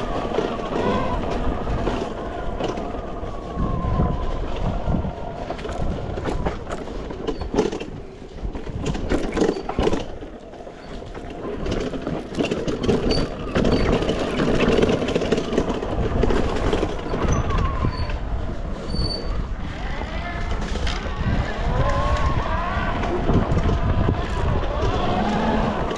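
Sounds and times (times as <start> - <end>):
bike clattering over bumps: 0.0 - 25.9
tyre rumble: 0.0 - 25.9
wind buffeting microphone: 0.0 - 25.9.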